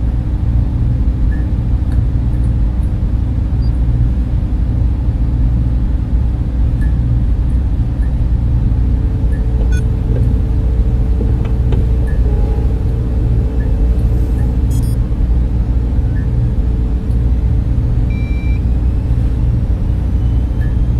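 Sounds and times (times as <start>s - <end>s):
cooling fans rumbling: 0.0s - 20.9s
faint hum: 0.0s - 20.9s.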